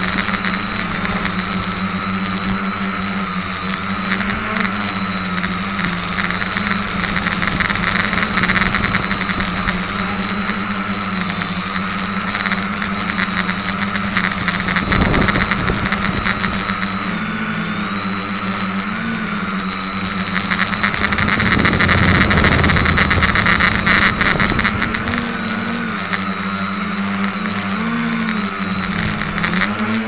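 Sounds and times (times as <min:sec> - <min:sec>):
drone motors buzzing: 0:00.0 - 0:30.0
rushing noise bursts: 0:00.0 - 0:30.0.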